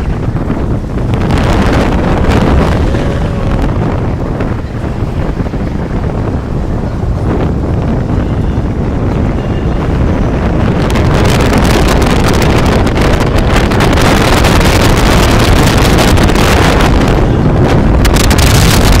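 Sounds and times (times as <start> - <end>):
car running rumble: 0.0 - 19.0
wind buffeting microphone: 0.0 - 19.0.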